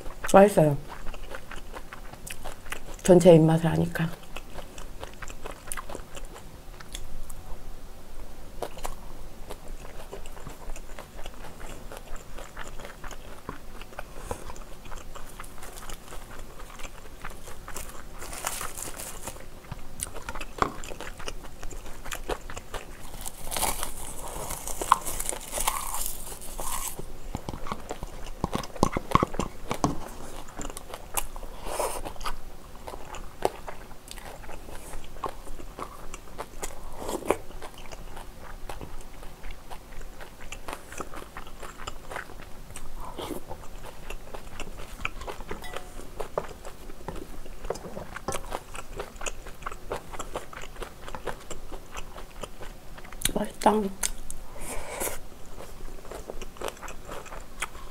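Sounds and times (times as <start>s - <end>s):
chewing and crunching: 0.0s - 7.1s, 8.6s - 57.9s.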